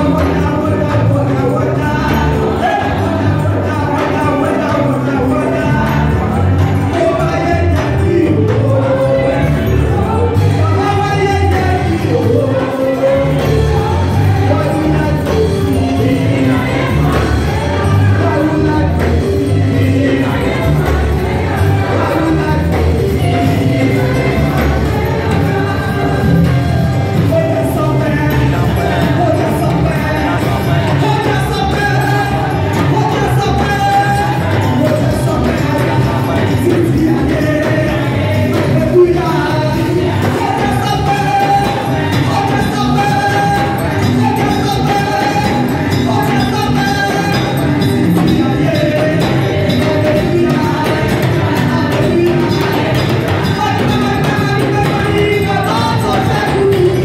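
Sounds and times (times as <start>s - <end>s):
band with heavy bass: 0.0s - 57.0s
gospel choir singing: 0.0s - 57.0s.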